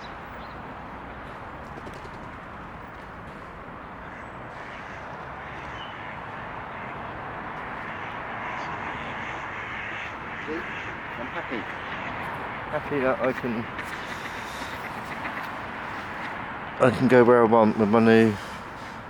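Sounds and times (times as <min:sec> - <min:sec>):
rushing outdoor background noise: 0:00.0 - 0:19.0.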